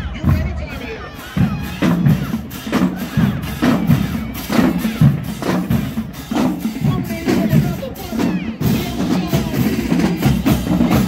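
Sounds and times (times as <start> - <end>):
drumline marching beat: 0.0 - 11.0.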